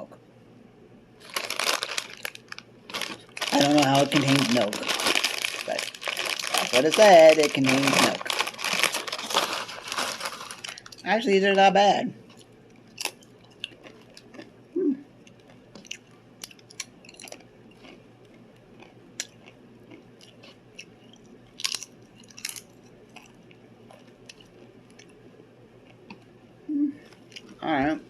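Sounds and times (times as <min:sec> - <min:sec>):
crunchy chips being chewed: 0:01.2 - 0:11.1, 0:12.3 - 0:25.2, 0:27.0 - 0:27.6.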